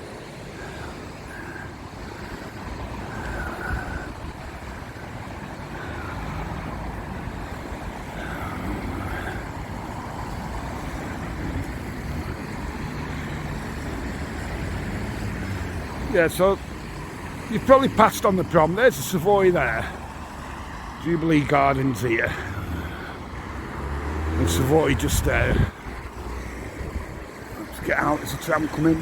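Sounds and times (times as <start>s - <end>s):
rumble of passing cars: 0.0s - 29.0s.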